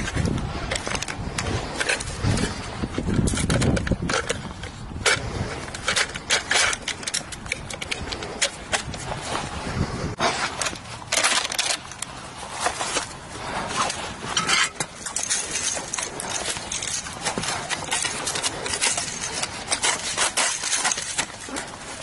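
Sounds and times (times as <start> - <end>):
machine gun metal clicks and clatter: 0.0 - 9.5, 10.3 - 22.0
rustling of dry leaves: 0.0 - 22.0.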